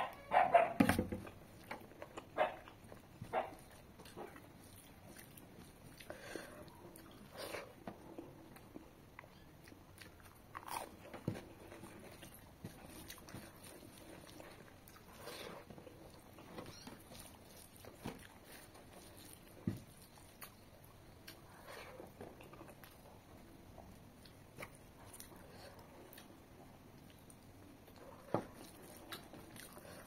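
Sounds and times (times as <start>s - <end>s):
person chewing and lip-smacking: 1.2s - 30.0s.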